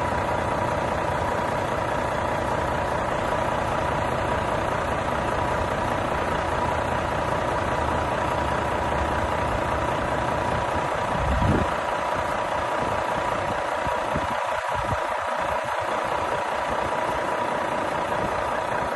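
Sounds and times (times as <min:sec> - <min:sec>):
truck diesel engine idling: 0:00.0 - 0:18.9.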